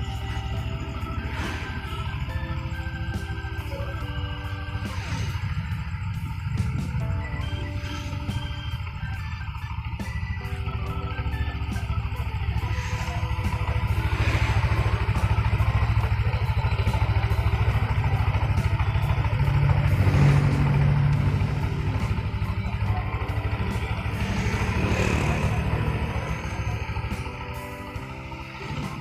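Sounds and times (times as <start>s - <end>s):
scooter engine running roughly: 0.0s - 29.0s.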